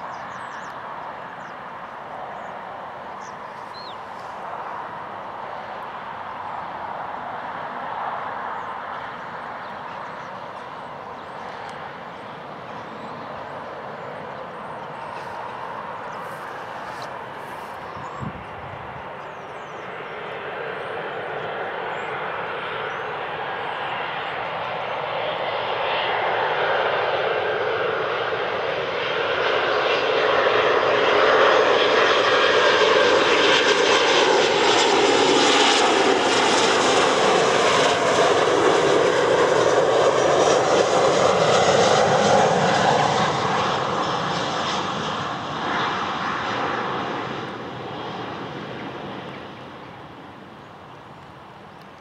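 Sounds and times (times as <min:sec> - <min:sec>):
jet airliner turbofan whine: 0:00.0 - 0:52.0.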